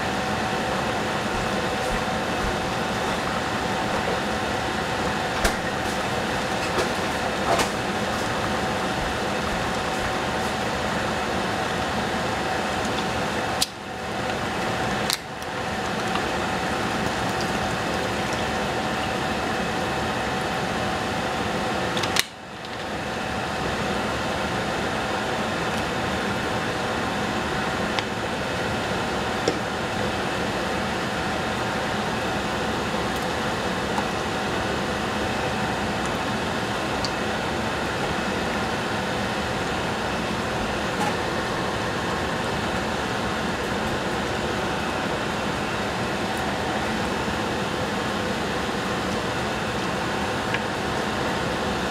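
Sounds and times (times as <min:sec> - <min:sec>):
fan whirring: 0:00.0 - 0:51.9.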